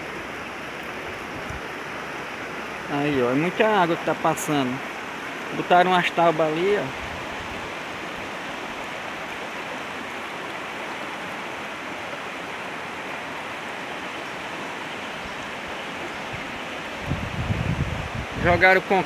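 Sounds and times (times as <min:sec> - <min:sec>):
floodwater rushing through pipes: 0:00.0 - 0:19.0.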